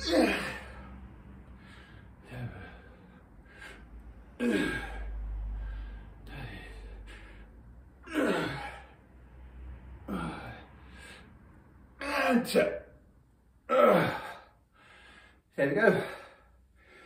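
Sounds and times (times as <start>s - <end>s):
man breathing hard: 0.0s - 11.9s, 13.9s - 17.0s.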